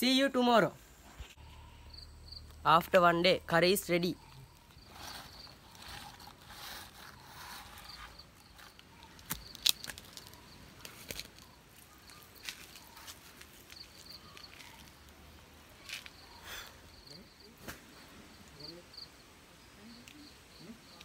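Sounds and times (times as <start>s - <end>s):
insects chirping: 0.8s - 21.0s.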